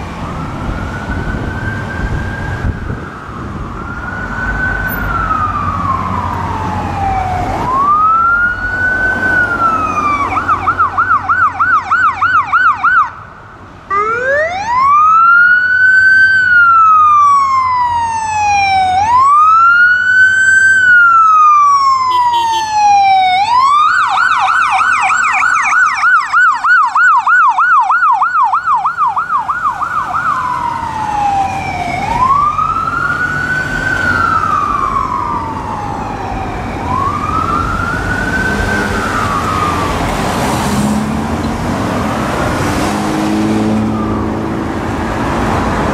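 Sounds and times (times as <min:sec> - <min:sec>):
ambulance siren wailing and yelping: 0:00.0 - 0:13.2, 0:13.9 - 0:41.0, 0:41.9 - 0:45.0.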